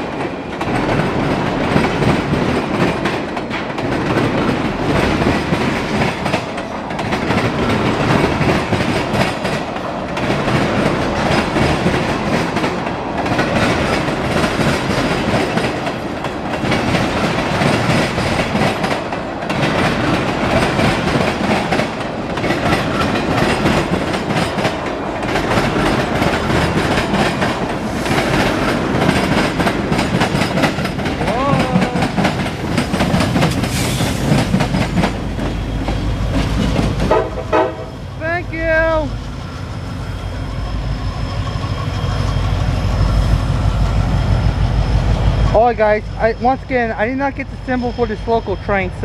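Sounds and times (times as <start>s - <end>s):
freight train wheels clacking: 0.0s - 49.0s.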